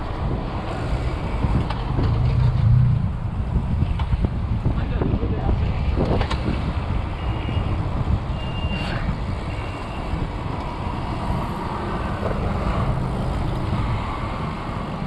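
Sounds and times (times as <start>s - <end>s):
bicycle tyre roar: 0.0s - 15.0s
car and motorbike engines: 0.0s - 15.0s
wind noise on microphone: 0.0s - 15.0s.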